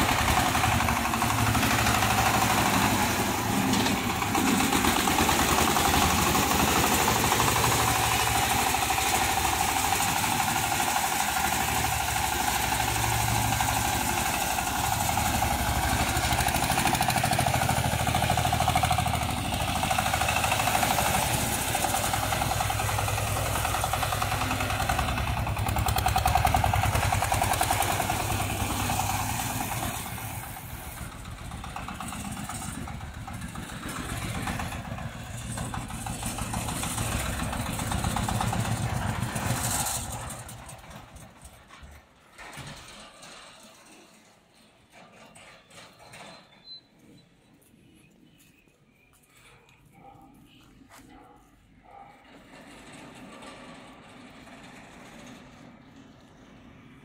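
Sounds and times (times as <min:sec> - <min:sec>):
tractor engine running: 0:00.0 - 0:46.3, 0:49.8 - 0:57.0.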